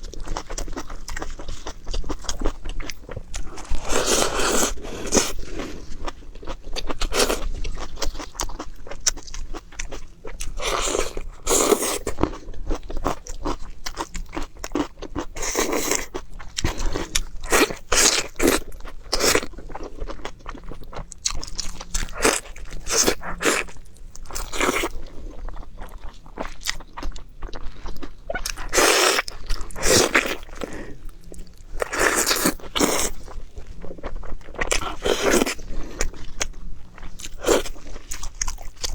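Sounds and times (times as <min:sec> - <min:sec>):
crunchy bites and chewing: 0:00.0 - 0:38.9.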